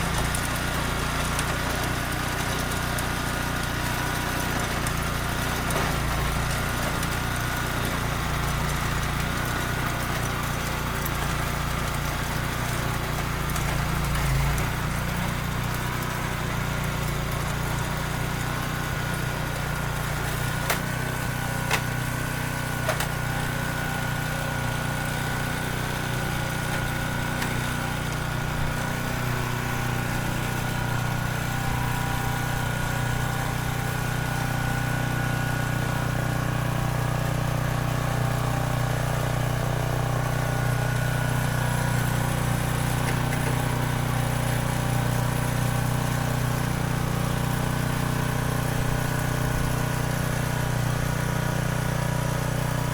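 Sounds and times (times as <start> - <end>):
small tractor engine running: 0.0 - 52.9.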